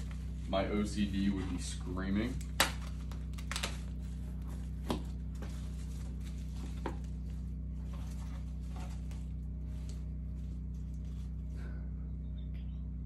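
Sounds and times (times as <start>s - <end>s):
bubble wrap crinkling: 0.0s - 11.6s
steady low hum: 0.0s - 13.0s.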